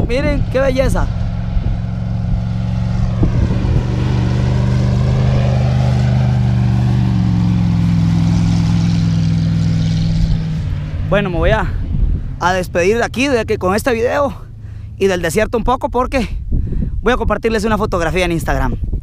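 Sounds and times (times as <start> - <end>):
dune buggy engine running: 0.0 - 19.0.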